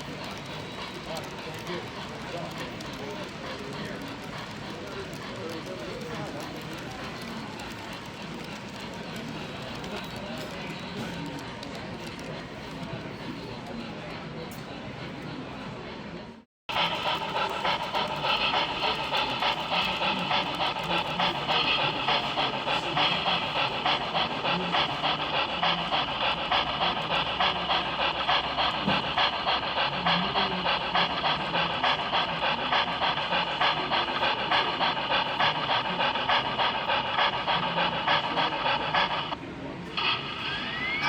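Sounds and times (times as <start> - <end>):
model steam locomotive chuffing: 0.0 - 41.0.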